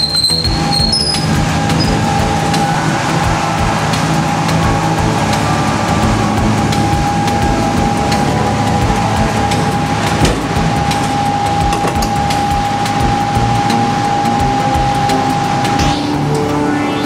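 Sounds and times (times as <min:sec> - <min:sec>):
lorry machinery hum: 0:00.0 - 0:17.0
mid-pitched whine: 0:00.0 - 0:17.0.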